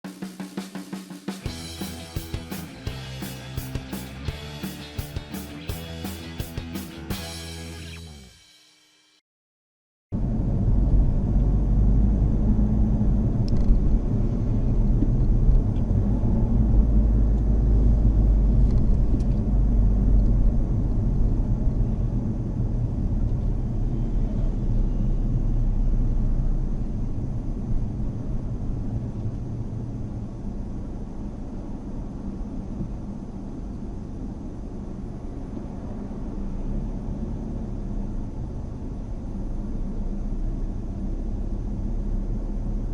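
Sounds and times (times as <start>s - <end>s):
car engine and road noise: 1.4s - 8.4s, 10.2s - 42.9s.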